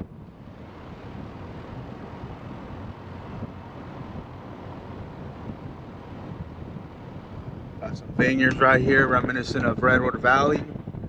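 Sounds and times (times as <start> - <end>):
car tyres and engine rumbling: 0.0 - 11.0
wind noise on microphone: 0.0 - 11.0.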